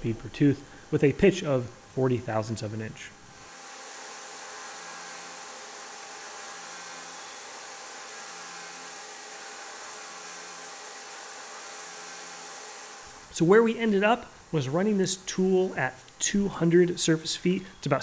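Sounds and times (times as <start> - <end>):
milling spindle hiss and whine: 0.0 - 18.0.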